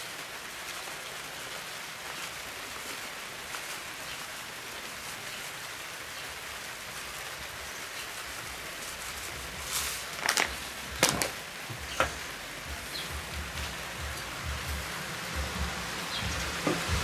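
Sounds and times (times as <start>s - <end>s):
light rain falling: 0.0s - 17.0s.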